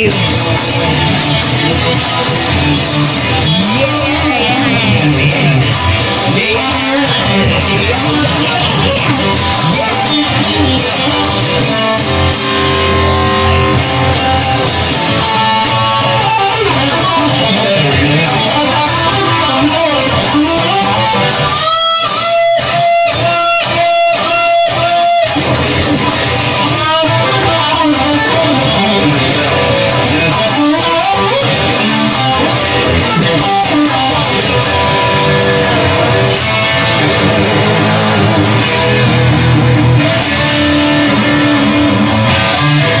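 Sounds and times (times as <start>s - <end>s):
band playing choppy stabs: 0.0s - 43.0s
bass and drums: 0.0s - 43.0s
electric guitar lead: 0.0s - 43.0s.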